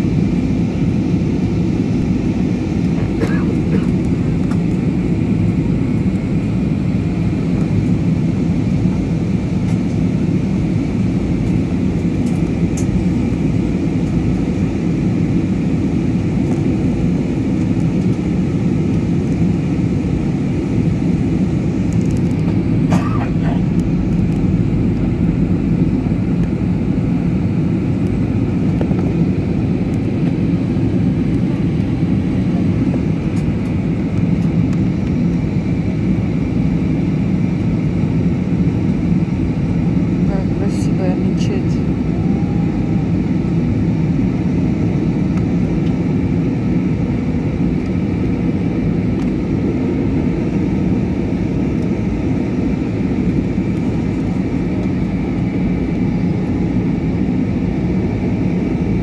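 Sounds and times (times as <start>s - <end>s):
jet cabin engine noise: 0.0s - 59.0s.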